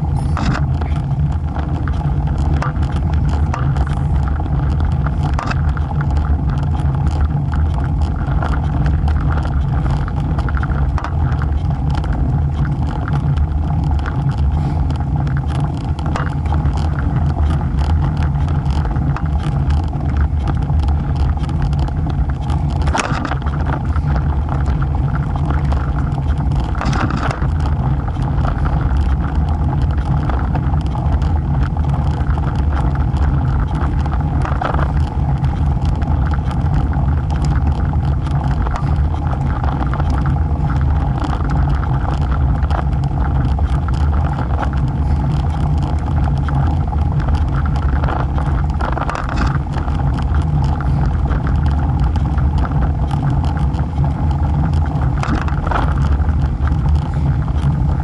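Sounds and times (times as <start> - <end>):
bike clicks and rattles: 0.0 - 58.0
tyre and wind rumble: 0.0 - 58.0.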